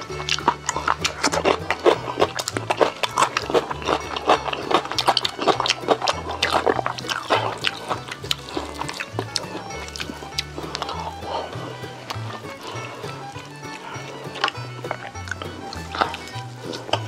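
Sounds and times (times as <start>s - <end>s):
crunching and chewing chicken: 0.0s - 17.0s.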